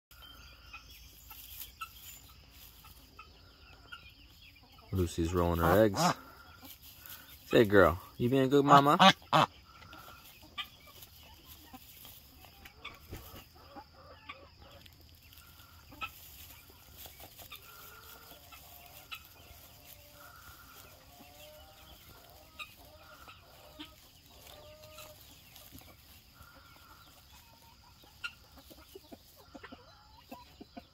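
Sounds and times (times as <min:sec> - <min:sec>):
chickens clucking softly: 0:00.2 - 0:30.9
straw rustling: 0:00.8 - 0:03.2, 0:04.9 - 0:29.5.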